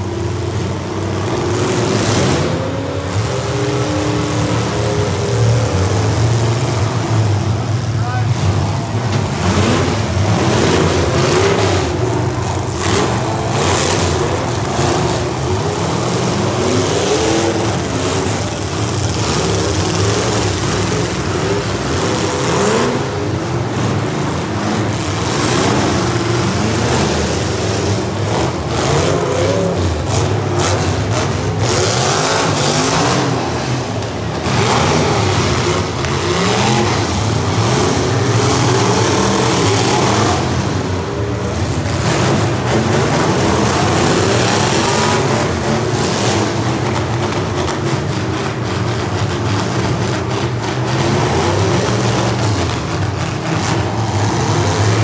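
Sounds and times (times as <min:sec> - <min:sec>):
car engines revving: 0:00.0 - 0:55.0
sharp bursts of engine noise: 0:00.0 - 0:55.0.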